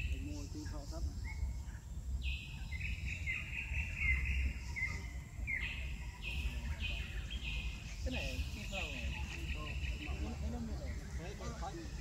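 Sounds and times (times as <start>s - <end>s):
constant low rumble: 0.0s - 12.0s
insects buzzing: 0.0s - 12.0s.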